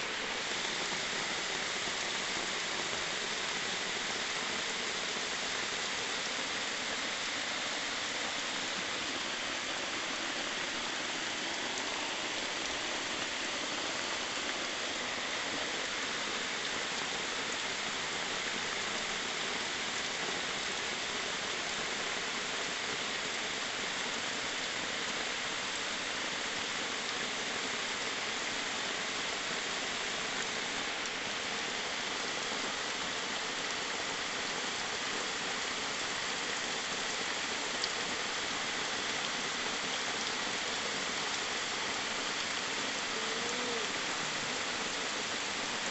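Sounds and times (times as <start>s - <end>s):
heavy rain on plastic tarp: 0.0s - 45.9s
rain on forest: 0.0s - 45.9s.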